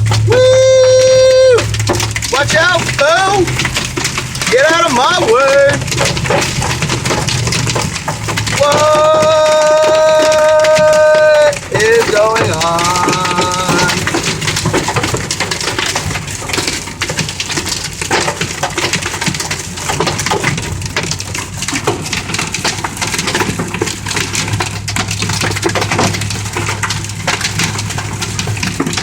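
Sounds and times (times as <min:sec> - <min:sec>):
engine humming: 0:00.0 - 0:29.0
heavy rain on a vehicle: 0:00.0 - 0:29.0.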